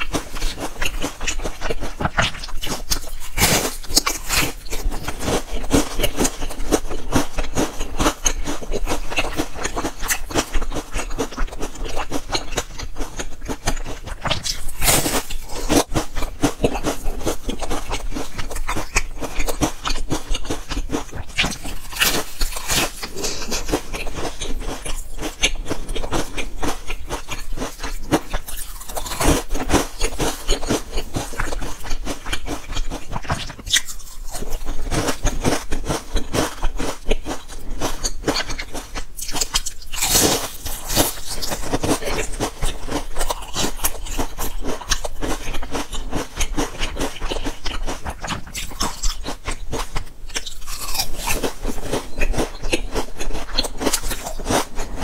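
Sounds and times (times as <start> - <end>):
biscuit crunching: 0.0 - 55.0.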